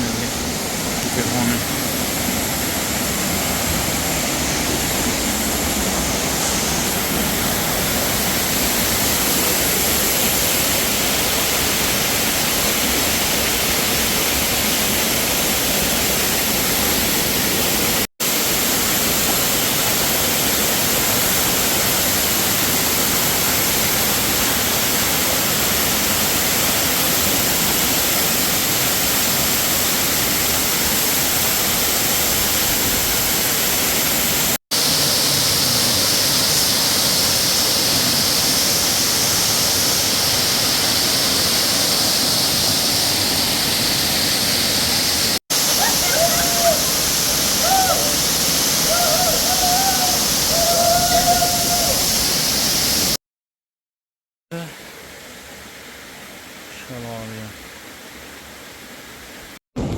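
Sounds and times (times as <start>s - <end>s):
waterfall rushing: 0.0s - 53.2s.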